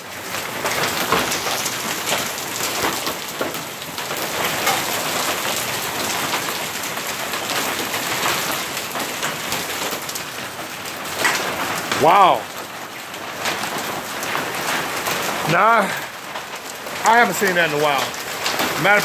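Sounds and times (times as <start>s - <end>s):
hail clattering on surfaces: 0.0s - 19.0s.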